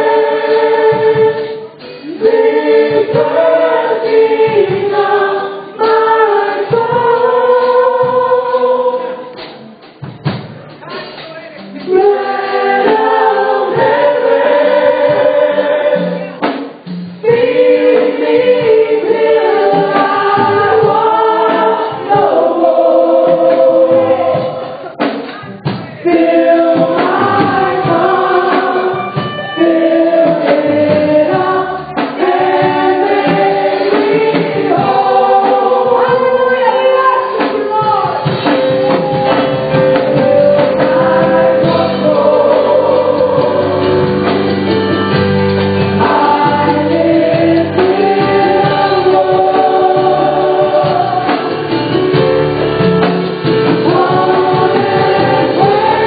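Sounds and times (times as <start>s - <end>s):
choir singing gospel song: 0.0s - 9.7s, 11.8s - 56.0s.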